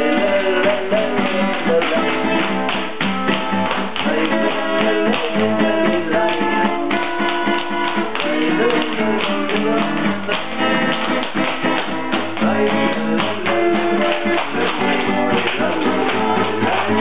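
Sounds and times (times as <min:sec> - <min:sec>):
acoustic guitar: 0:00.0 - 0:17.0
tap shoes on wooden floor: 0:00.7 - 0:17.0.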